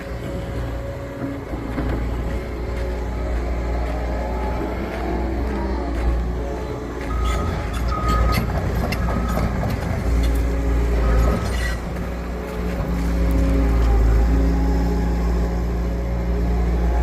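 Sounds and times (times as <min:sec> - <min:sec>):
heavy machinery engine rumble: 0:00.0 - 0:17.0.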